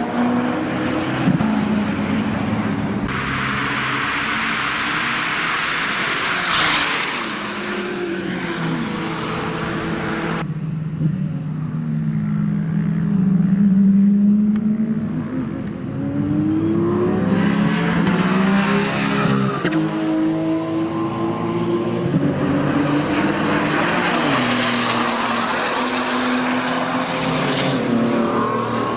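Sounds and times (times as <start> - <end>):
loud car engine revving: 0.0 - 28.9.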